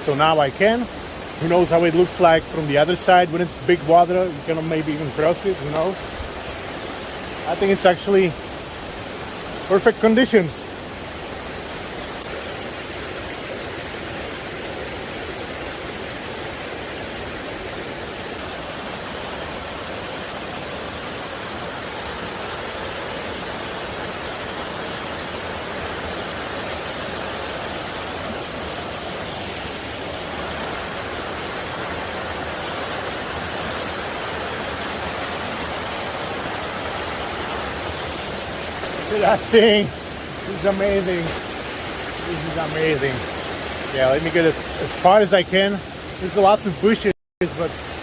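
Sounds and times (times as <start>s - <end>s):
waterfall rushing and splashing: 0.0s - 48.0s.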